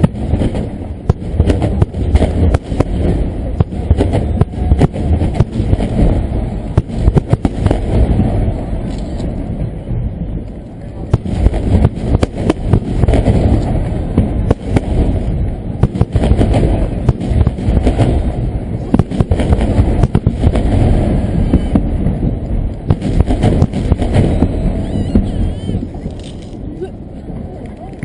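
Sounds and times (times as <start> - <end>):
fireworks cracks and booms: 0.0 - 9.7, 11.1 - 26.6
continuous low rumble: 0.0 - 28.0.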